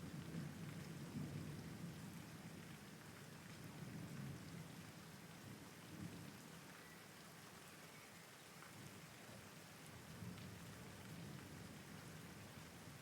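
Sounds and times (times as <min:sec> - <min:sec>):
soft rain falling: 0:00.0 - 0:13.0.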